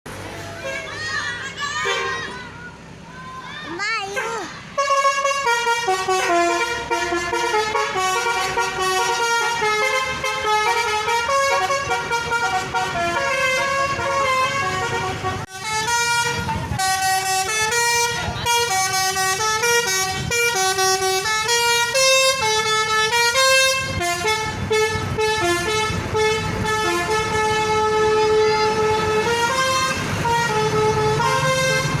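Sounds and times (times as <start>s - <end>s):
traffic rumble: 0.1s - 32.0s
multi-tone air horn melody: 1.8s - 2.4s, 4.2s - 32.0s.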